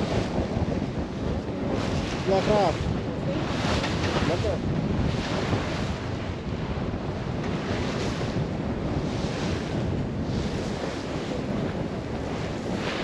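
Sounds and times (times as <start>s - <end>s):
waves rushing along hull: 0.0s - 13.0s
wind buffeting microphone: 0.0s - 13.0s.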